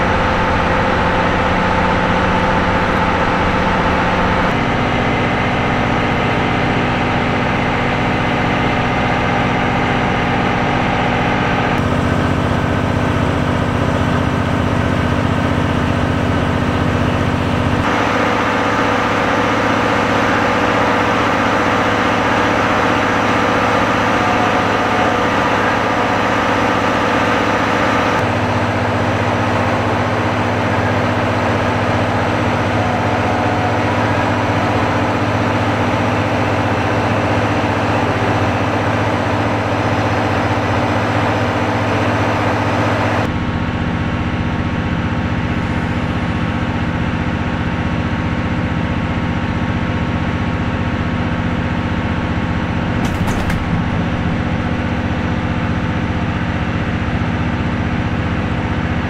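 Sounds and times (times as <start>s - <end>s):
train diesel engine humming: 0.0s - 59.0s.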